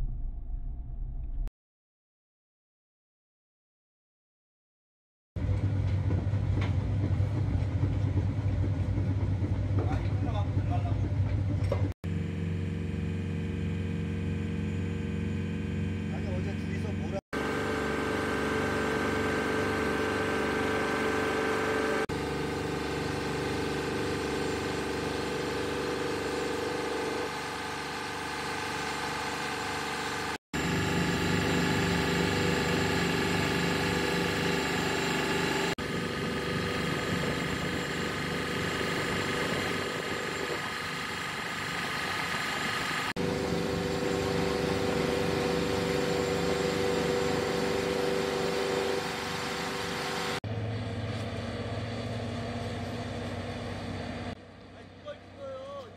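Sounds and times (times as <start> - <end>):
motorboat engine running: 5.4 - 55.9.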